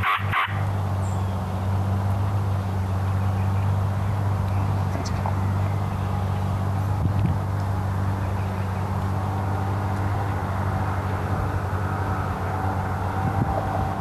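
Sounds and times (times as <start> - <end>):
vehicle engine and road drone: 0.0 - 14.0.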